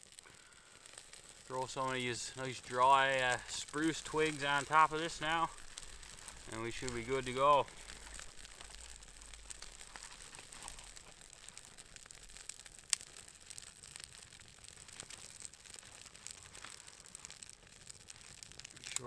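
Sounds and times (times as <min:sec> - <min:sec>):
fire crackling: 0:00.0 - 0:19.0
fire pops and snap: 0:00.0 - 0:19.0.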